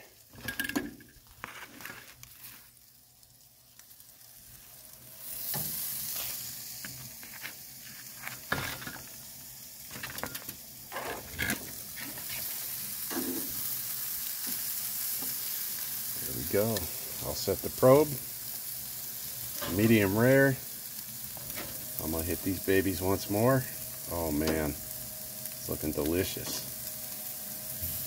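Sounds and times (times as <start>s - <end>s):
steak sizzling on grill: 0.0s - 28.0s.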